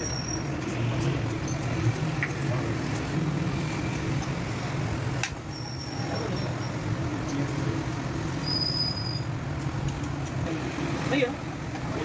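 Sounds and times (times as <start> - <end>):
low rumble of traffic and engines: 0.0 - 12.0.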